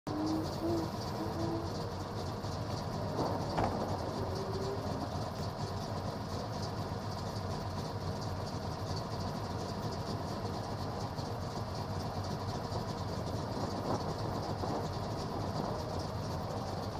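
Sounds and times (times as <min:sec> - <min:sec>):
car engine idling: 0:00.1 - 0:16.9.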